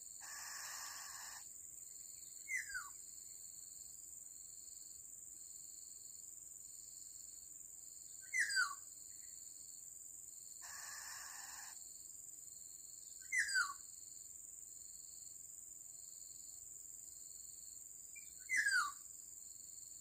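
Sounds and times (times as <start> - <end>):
high insect drone: 0.0 - 20.0
pulsing insect chirp: 0.0 - 20.0.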